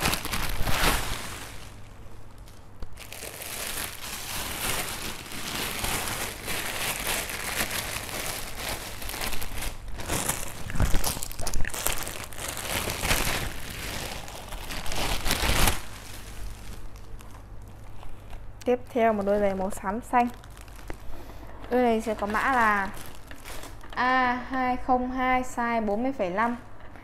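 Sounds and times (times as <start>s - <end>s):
plastic bag crinkling: 0.0s - 24.1s.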